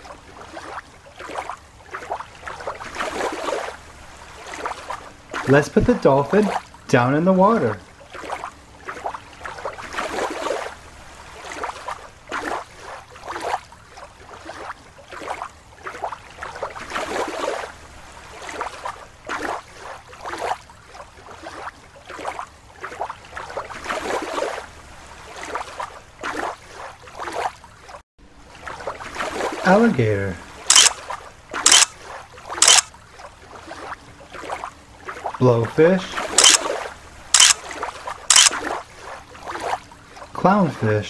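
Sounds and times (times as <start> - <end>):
water sloshing in a plastic tub: 0.0 - 40.8.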